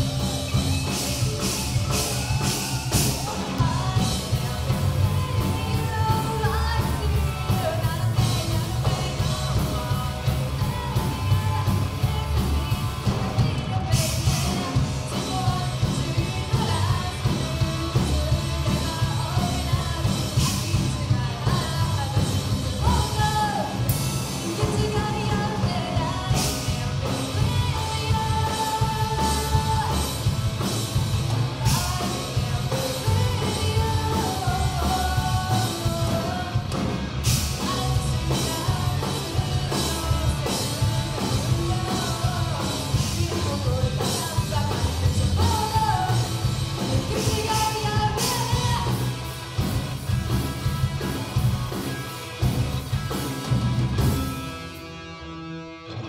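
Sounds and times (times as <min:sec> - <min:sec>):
bass guitar: 0:00.0 - 0:56.0
drums: 0:00.0 - 0:56.0
electric guitars: 0:00.0 - 0:56.0
woman singing lead vocal: 0:00.9 - 0:30.8, 0:31.5 - 0:49.7.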